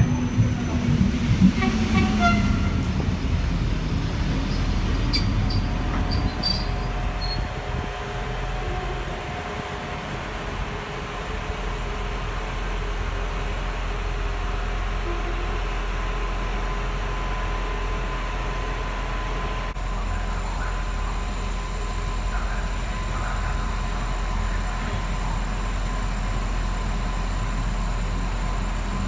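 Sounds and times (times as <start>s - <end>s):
electric train rumble: 0.0s - 29.0s
railcar engine hum: 0.0s - 29.0s.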